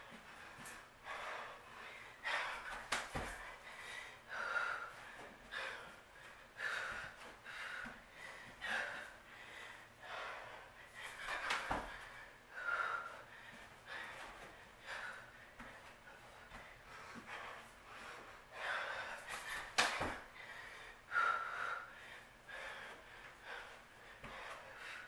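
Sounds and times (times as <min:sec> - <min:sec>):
woman breathing hard: 0:00.0 - 0:25.0.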